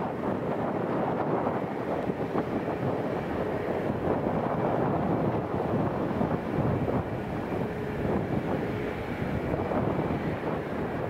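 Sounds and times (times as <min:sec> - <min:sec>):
distant jet engines: 0:00.0 - 0:11.0
wind buffeting microphone: 0:00.0 - 0:11.0.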